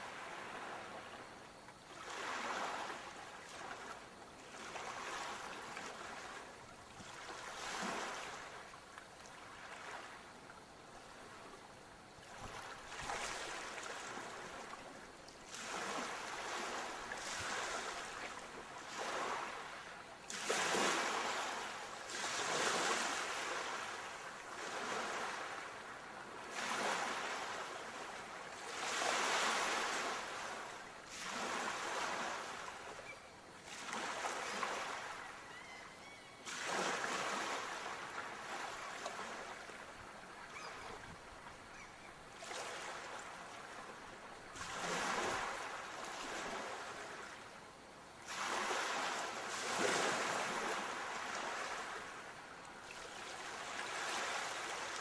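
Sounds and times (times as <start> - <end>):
sea waves breaking on shore: 0.0 - 10.4, 11.0 - 47.6, 48.2 - 55.0.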